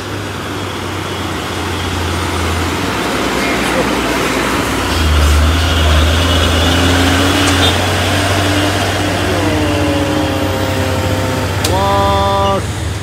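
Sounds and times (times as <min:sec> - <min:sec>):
falling whine: 0:00.0 - 0:13.0
truck diesel engine labouring: 0:00.0 - 0:13.0.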